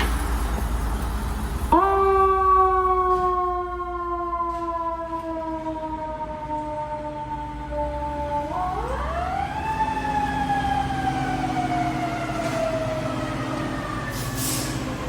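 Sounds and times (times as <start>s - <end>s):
truck engine rumble: 0.0s - 15.0s
fire engine siren wailing: 1.7s - 15.0s.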